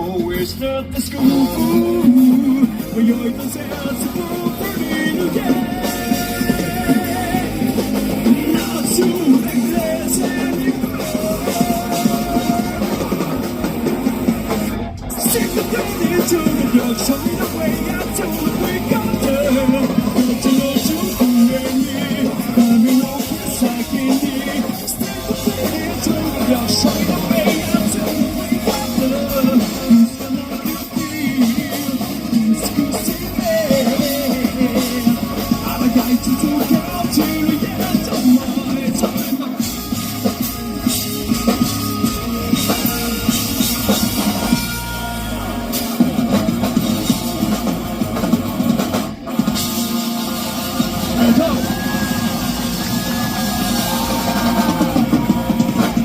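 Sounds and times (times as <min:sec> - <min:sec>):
drums: 0:00.0 - 0:56.0
electric guitar: 0:00.0 - 0:56.0
live rock band playing: 0:00.0 - 0:56.0.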